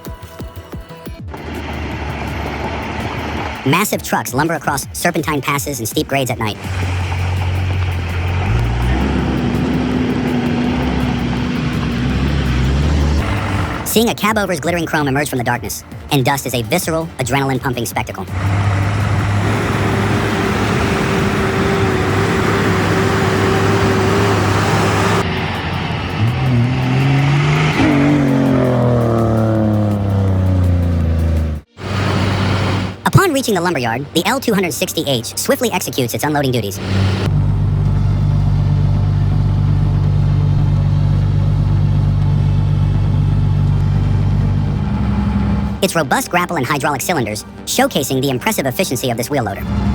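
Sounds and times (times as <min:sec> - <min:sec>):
heavy truck engine droning: 0:01.2 - 0:49.9.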